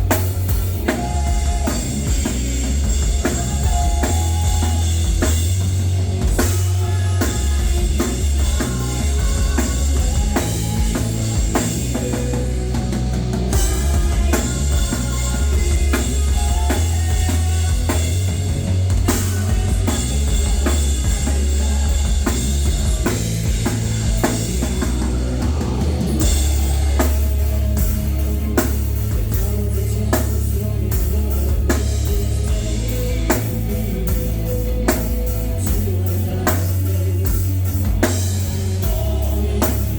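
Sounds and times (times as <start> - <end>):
bass drum and cymbals: 0.0 - 39.9
rock band playing live: 0.0 - 39.9.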